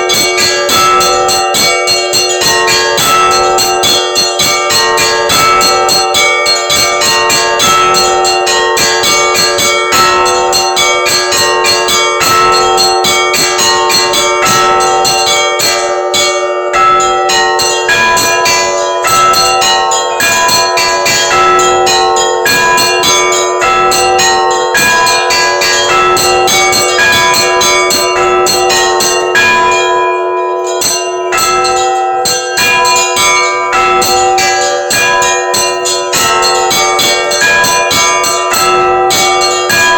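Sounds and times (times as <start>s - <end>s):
large church bells ringing: 0.0s - 39.9s
small church bells ringing rapidly: 0.0s - 39.9s.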